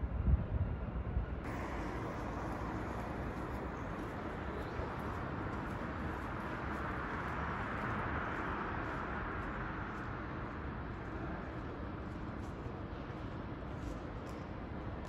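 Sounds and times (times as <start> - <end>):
distant traffic hum: 1.4 - 13.8.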